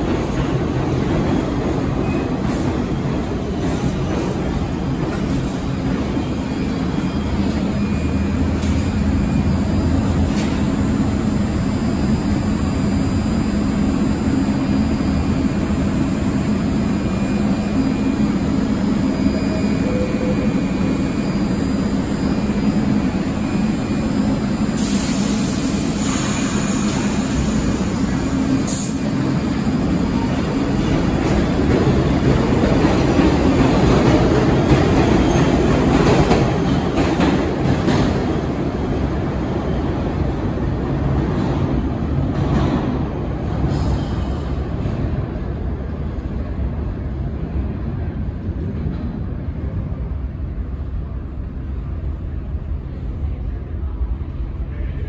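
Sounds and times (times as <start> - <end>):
approaching train rumble: 0.0 - 55.0
subway train rumble and hum: 0.0 - 55.0.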